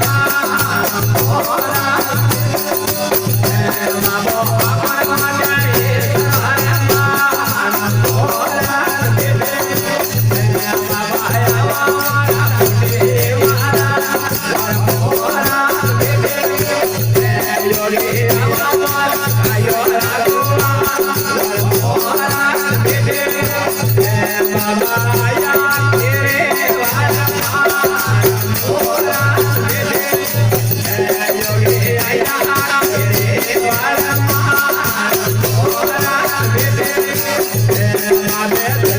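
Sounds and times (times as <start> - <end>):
rattling percussion: 0.0 - 38.9.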